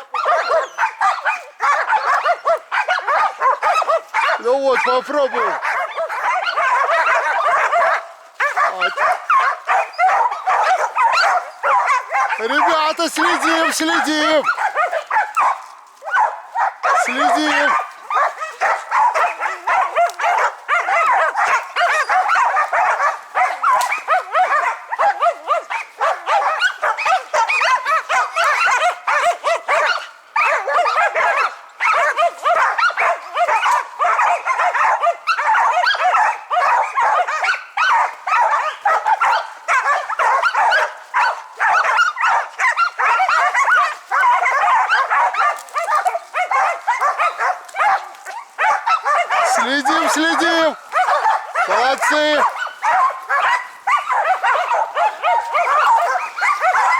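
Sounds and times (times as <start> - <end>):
dogs barking: 0.0 - 56.9.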